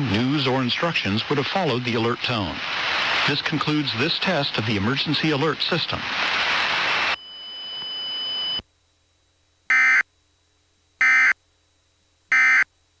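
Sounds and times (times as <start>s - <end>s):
steady high whine: 0.0s - 13.0s.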